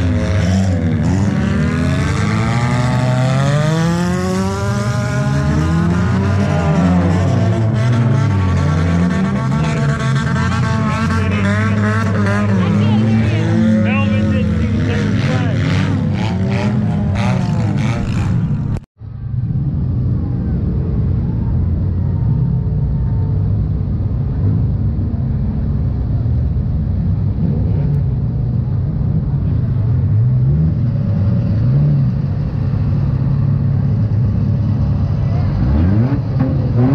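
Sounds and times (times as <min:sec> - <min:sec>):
car engine rumbling and revving: 0:00.0 - 0:36.9
race track noise: 0:00.0 - 0:36.9.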